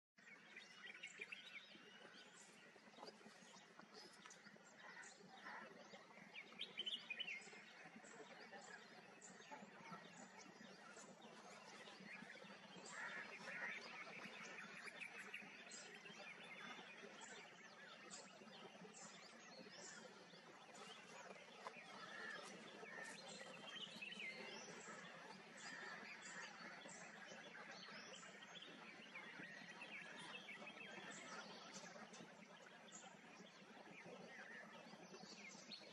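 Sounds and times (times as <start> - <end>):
birds chirping: 0.2 - 35.9.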